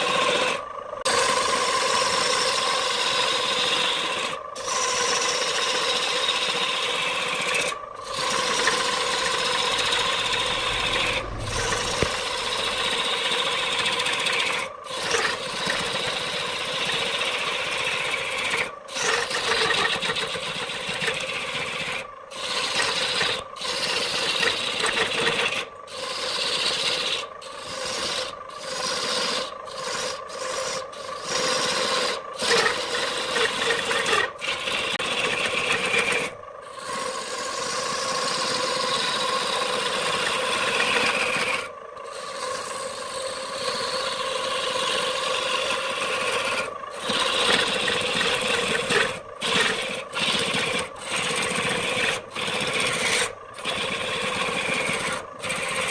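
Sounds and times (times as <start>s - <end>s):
wood lathe humming: 0.0s - 55.9s
gouge scraping wood: 3.0s - 41.6s, 44.8s - 55.9s.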